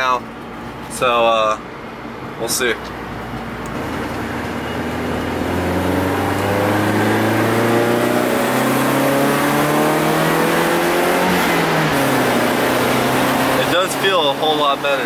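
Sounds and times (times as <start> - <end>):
car engine accelerating: 2.9 - 15.0.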